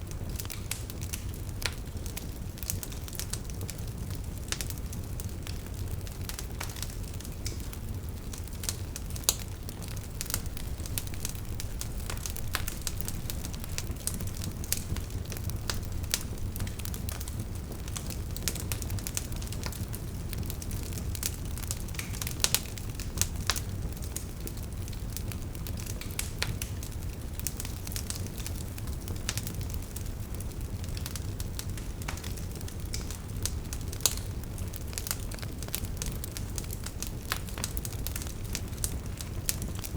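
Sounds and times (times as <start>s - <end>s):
flame rumbling: 0.0s - 39.9s
logs crackling and popping: 0.0s - 39.9s.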